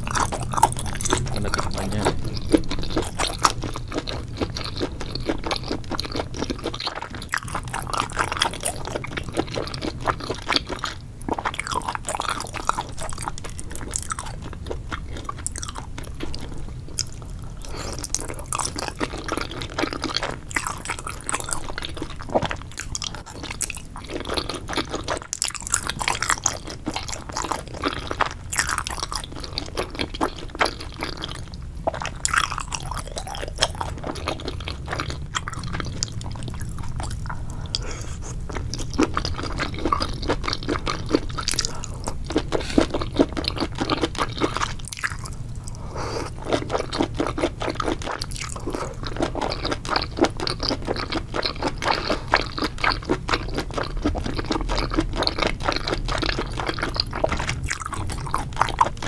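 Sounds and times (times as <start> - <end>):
wet crunchy chewing: 0.0 - 59.0.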